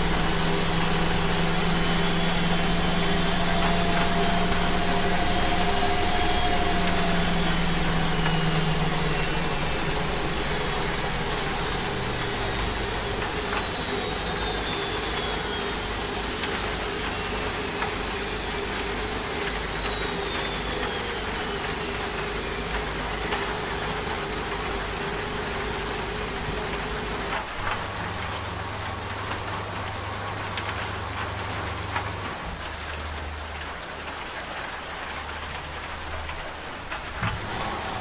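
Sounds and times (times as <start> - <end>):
low hum: 0.0 - 34.4
high motor whine: 0.0 - 38.0
rain hiss: 0.0 - 38.0
washing machine running: 0.0 - 38.0.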